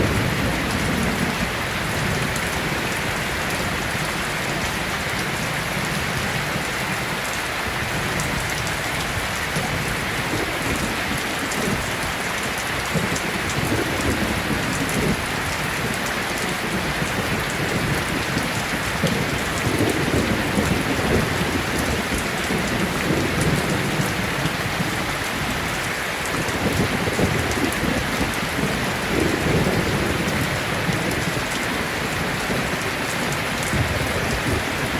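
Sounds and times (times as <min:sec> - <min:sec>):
heavy rain on a metal roof: 0:00.0 - 0:34.9
thunder rumbling: 0:00.0 - 0:34.9.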